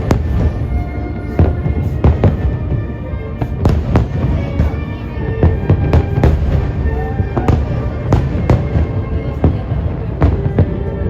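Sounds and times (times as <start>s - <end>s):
low rumble: 0.0s - 11.0s
music playing: 0.0s - 11.0s.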